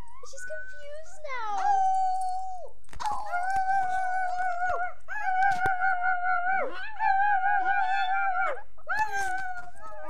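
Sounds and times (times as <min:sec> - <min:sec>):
small dog howling: 0:01.6 - 0:10.0.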